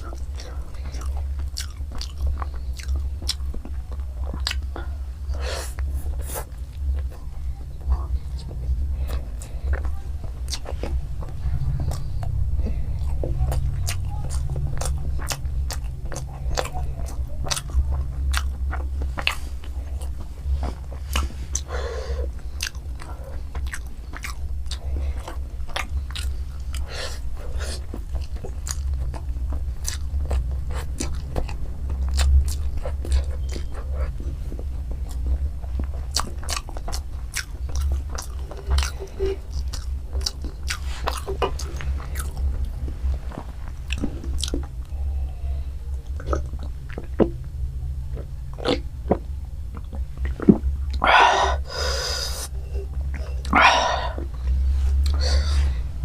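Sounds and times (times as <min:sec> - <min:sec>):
chewing with crunches: 0:00.0 - 0:56.0
steady low hum: 0:00.0 - 0:56.0.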